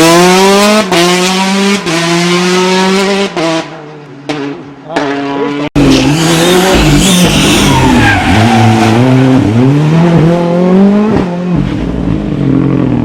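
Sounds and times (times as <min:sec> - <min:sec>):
car engine revving hard: 0:00.0 - 0:03.8, 0:05.1 - 0:13.0.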